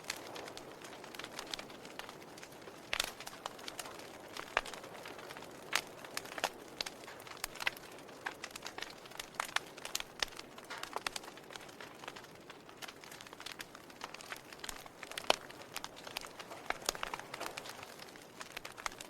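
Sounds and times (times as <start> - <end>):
fire soft hiss: 0.0 - 19.0
wood fire crackling and popping: 0.0 - 19.0.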